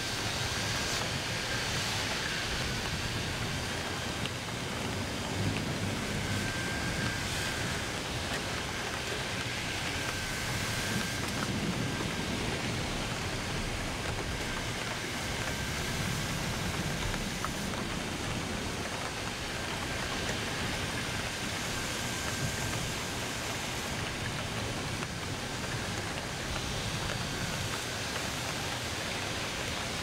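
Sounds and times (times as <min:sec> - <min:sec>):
rain falling: 0:00.0 - 0:30.0
raindrop ticks: 0:00.7 - 0:30.0.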